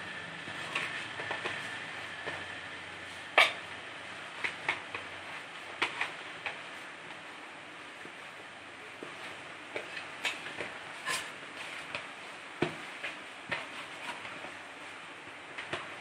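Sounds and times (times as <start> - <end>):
steady background hiss: 0.0 - 16.0
hand kneading dough in metal pot: 0.4 - 16.0.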